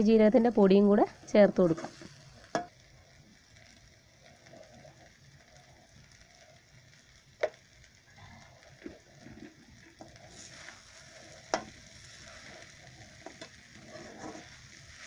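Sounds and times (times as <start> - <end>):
meat sizzling in a pan: 0.4 - 15.0.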